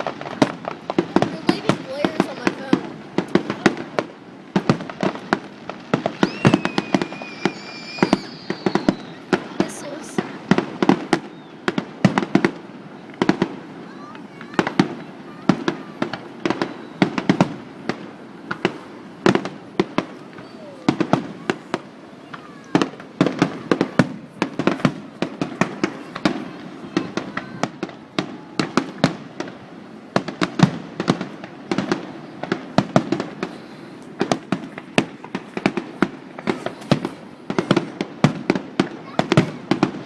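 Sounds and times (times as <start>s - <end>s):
fireworks bangs and crackling: 0.0s - 40.0s.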